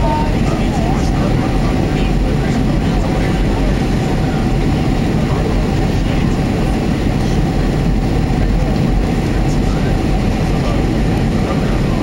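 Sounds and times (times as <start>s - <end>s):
aircraft cabin engine roar: 0.0s - 12.0s.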